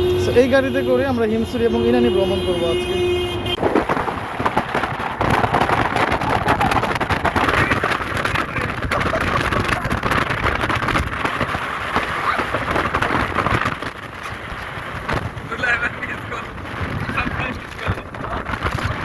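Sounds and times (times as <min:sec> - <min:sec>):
vehicle engine and road noise: 0:00.0 - 0:19.0
wind buffeting microphone: 0:03.4 - 0:19.0.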